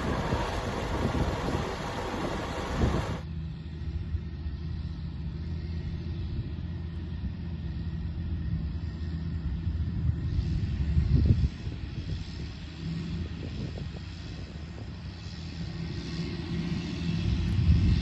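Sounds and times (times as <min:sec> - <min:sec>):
distant diesel engine drone: 0:00.0 - 0:18.0.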